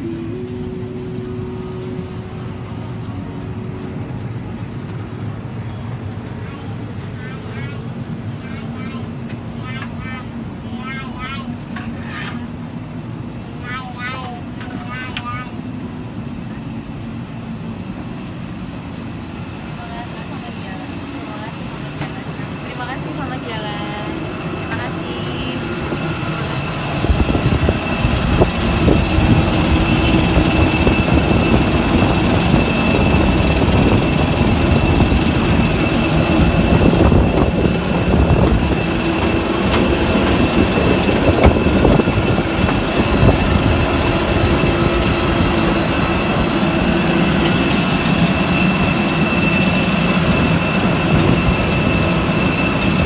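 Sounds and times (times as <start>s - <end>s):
high whine: 0.0s - 7.2s, 14.4s - 53.0s
aircraft cabin engine rumble: 0.0s - 53.0s.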